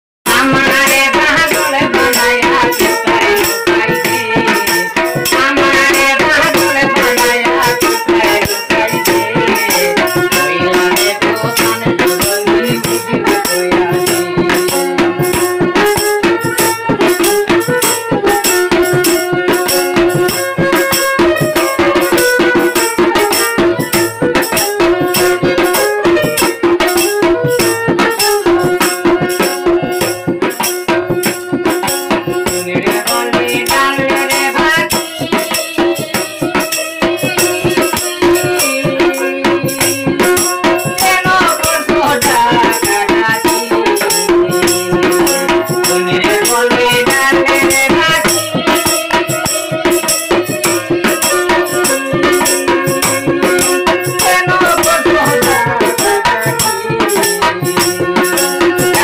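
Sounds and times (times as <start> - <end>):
fast steady percussion: 0.2 - 59.0.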